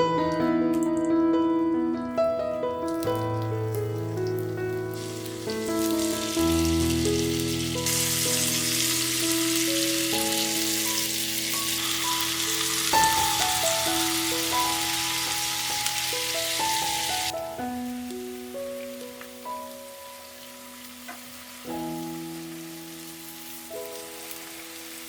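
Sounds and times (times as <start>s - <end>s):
slow melodic background music: 0.0s - 25.0s
food sizzling: 2.7s - 25.0s.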